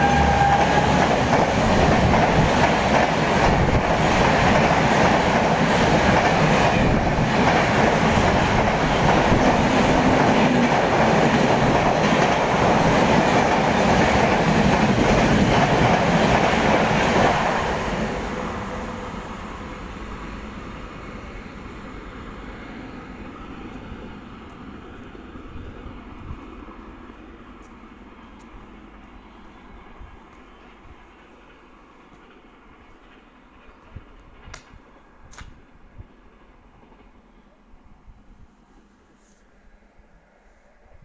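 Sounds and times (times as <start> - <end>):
train wheels rushing on rail: 0.0 - 37.5.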